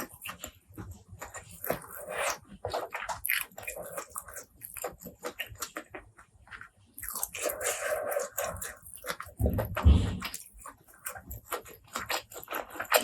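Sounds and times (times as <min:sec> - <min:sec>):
chewing and crunching food: 0:00.0 - 0:13.0.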